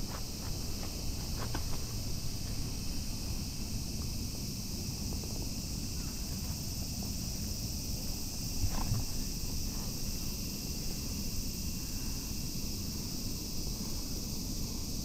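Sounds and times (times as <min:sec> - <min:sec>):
insects singing: 0:00.0 - 0:15.0.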